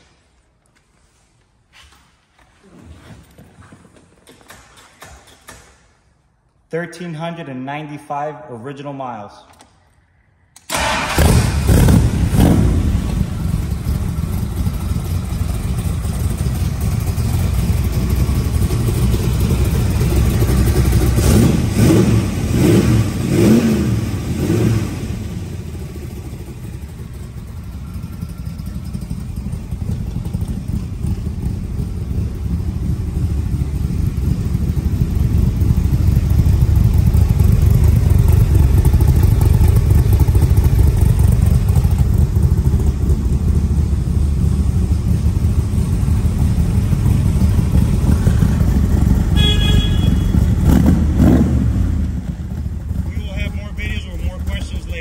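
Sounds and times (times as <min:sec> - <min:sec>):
car engine revving and idling: 0:10.7 - 0:55.0.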